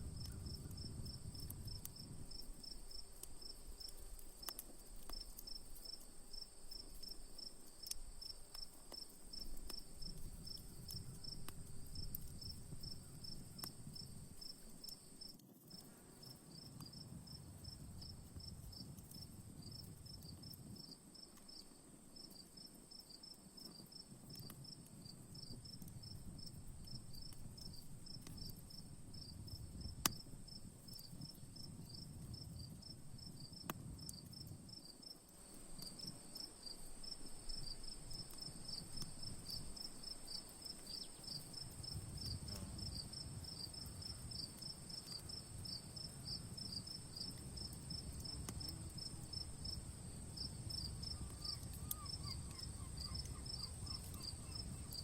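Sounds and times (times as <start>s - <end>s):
campfire pops: 0.0s - 22.8s, 23.6s - 55.0s
crickets chirping: 0.0s - 55.0s.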